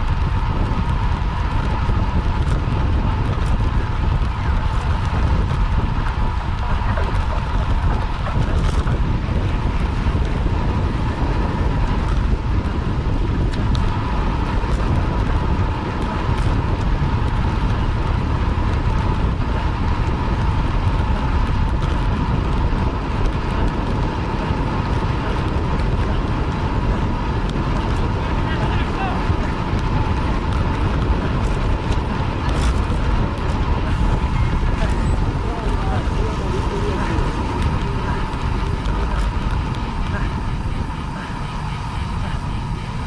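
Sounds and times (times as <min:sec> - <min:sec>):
road and tyre noise: 0:00.0 - 0:43.0
wind buffeting microphone: 0:00.0 - 0:43.0.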